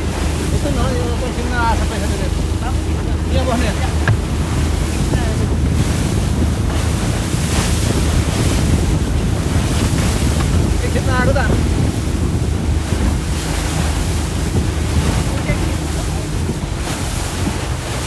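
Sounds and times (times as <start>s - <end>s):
rushing water: 0.0s - 18.0s
speedboat engine drone: 0.0s - 18.0s
wind buffeting microphone: 0.0s - 18.0s.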